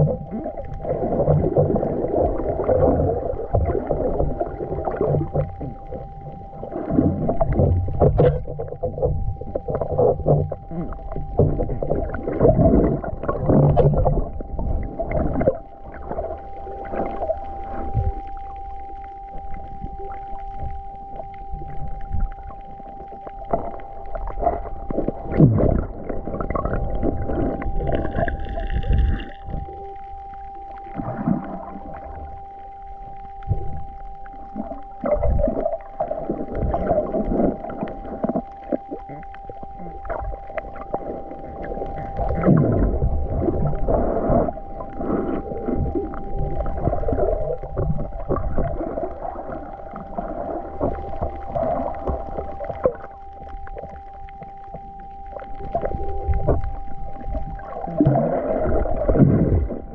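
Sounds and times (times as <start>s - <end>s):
muffled water sloshing: 0.0s - 59.9s
thin high whine: 0.0s - 59.9s.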